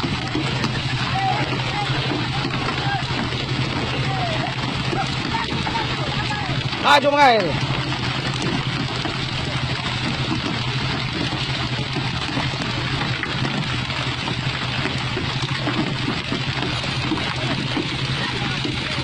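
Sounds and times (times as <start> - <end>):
boat engine droning: 0.0 - 19.0
water rushing along hull: 0.0 - 19.0.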